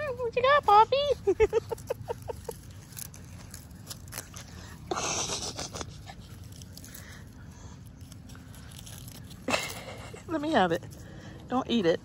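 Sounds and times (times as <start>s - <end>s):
puppies scuffling in leaves: 0.0s - 12.0s.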